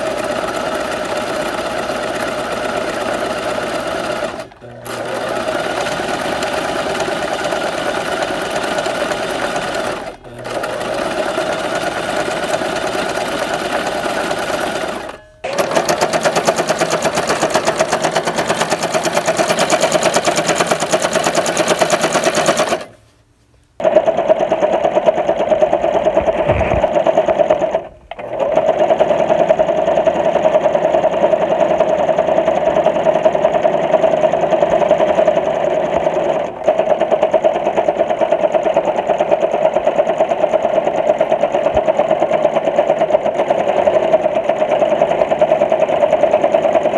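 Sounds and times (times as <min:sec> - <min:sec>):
sewing machine stitching: 0:00.0 - 0:23.0, 0:23.8 - 0:46.9.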